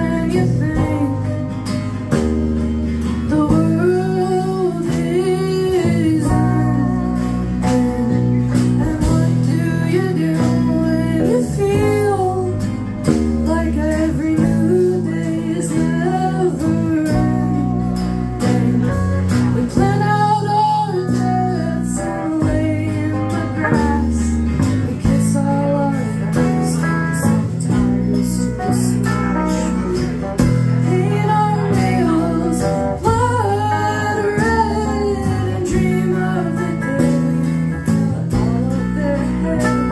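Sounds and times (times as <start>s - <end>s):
bass guitar: 0.0s - 39.9s
electric guitar: 0.0s - 39.9s
strummed acoustic guitar: 0.0s - 39.9s
woman singing: 0.0s - 39.9s.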